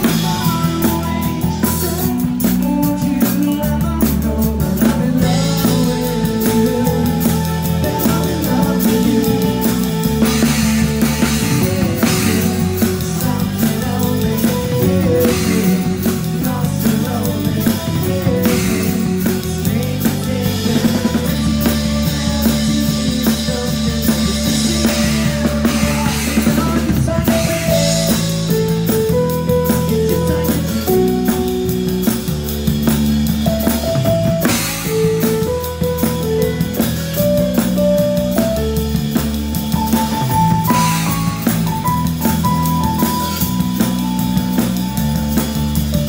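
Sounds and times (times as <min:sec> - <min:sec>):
instrumental rock band music: 0:00.0 - 0:46.0.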